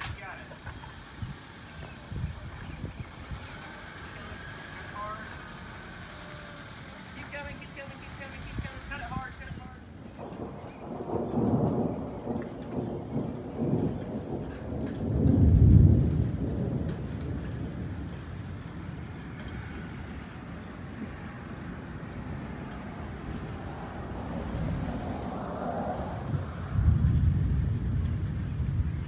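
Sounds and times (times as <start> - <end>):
raindrops ticking: 0.0 - 29.0
steady rain: 0.0 - 29.0
thunder rumbling: 0.0 - 29.0.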